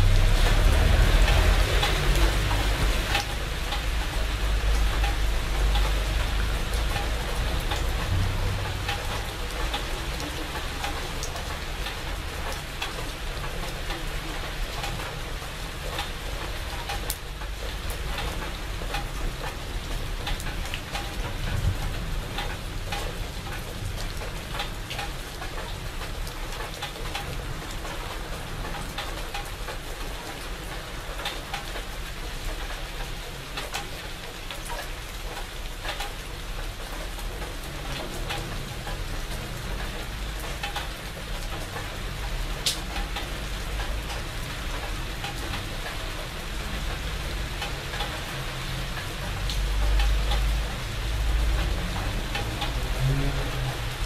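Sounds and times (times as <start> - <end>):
rain falling on leaves: 0.0 - 54.0
raindrops clicking: 0.0 - 54.0.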